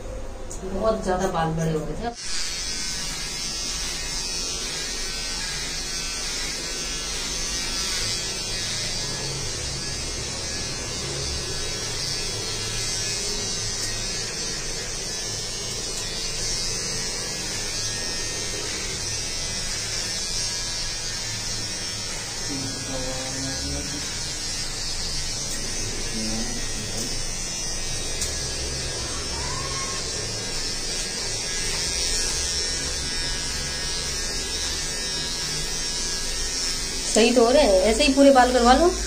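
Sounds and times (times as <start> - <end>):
electric hair trimmer buzzing: 0.5 - 39.0.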